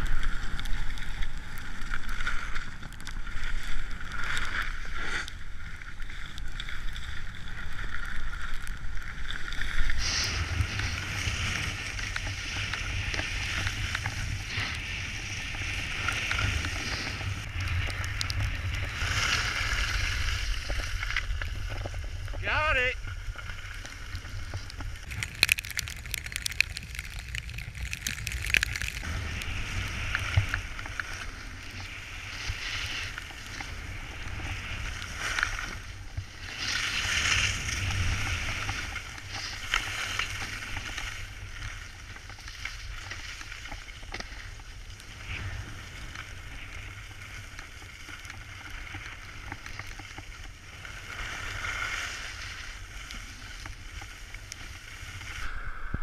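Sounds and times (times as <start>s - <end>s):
skis scraping over packed snow: 0.0s - 56.0s
wind rumbling on microphone: 0.0s - 56.0s.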